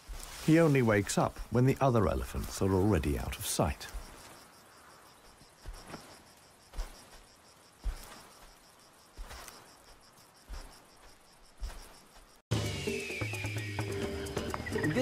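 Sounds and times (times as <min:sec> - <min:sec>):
elephant footsteps crunching brush: 0:00.0 - 0:12.4
insects chirping: 0:00.0 - 0:15.0.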